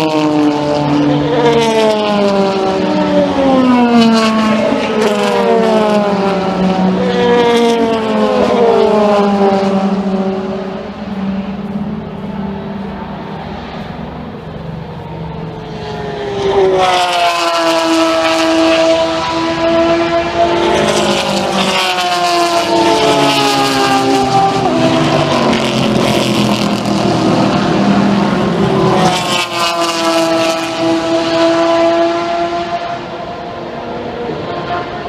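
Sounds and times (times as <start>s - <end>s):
race cars passing at speed: 0.0s - 35.0s.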